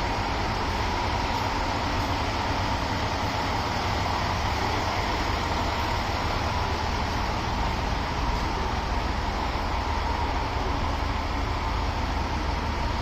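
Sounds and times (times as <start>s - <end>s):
faint steady whine: 0.0s - 13.0s
train rumble and hiss: 0.0s - 13.0s.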